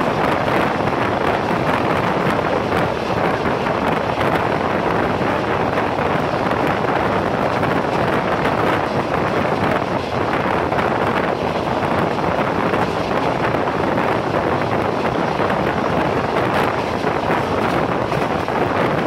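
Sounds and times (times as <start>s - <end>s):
train wheels rolling on rails: 0.0s - 19.0s
wind buffeting microphone: 0.0s - 19.0s
wind rushing: 0.0s - 19.0s.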